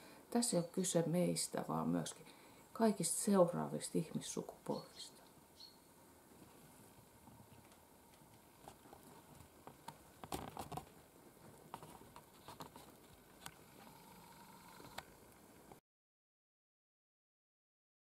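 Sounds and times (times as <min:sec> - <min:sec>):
low background hiss: 0:00.0 - 0:15.8.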